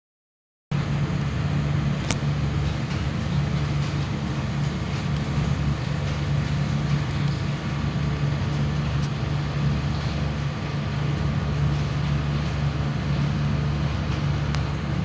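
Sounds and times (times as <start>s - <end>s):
vehicle engine hum: 0.7s - 15.0s.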